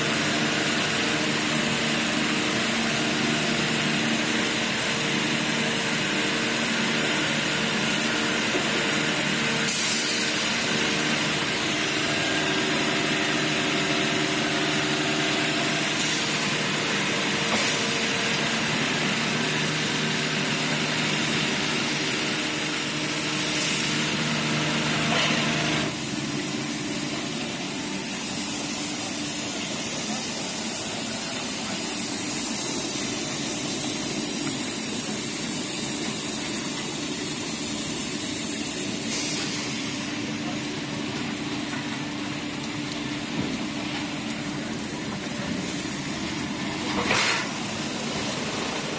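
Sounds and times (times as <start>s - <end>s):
car wash machinery hum: 0.0s - 48.9s
high-pressure water jets hissing: 0.0s - 48.9s.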